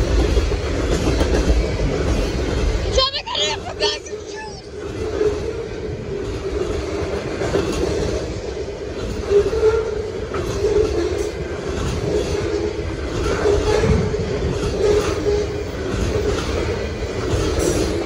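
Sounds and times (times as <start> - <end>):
steel wheels rumbling on rail: 0.0 - 18.0
wheels clacking over rail joints: 0.0 - 18.0.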